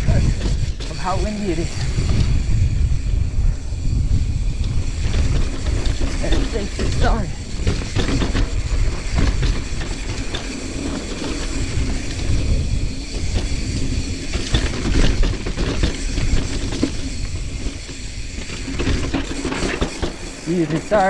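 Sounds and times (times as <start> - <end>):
bike rattling and clicking: 0.0 - 21.0
bike tyres rolling on dirt: 0.0 - 21.0
wind on microphone: 0.0 - 21.0.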